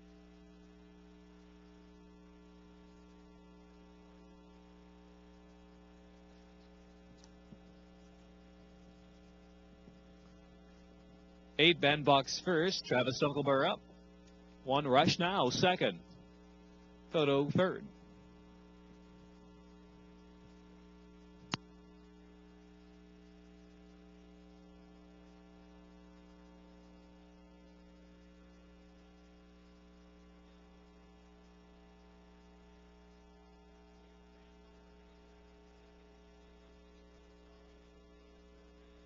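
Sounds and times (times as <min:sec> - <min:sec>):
electrical hum: 0:00.0 - 0:39.0.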